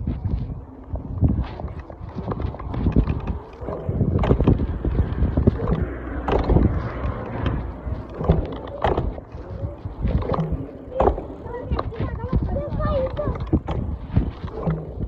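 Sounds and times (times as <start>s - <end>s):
wind rumbling on microphone: 0.0s - 15.0s
knocks and rattles: 1.2s - 15.0s.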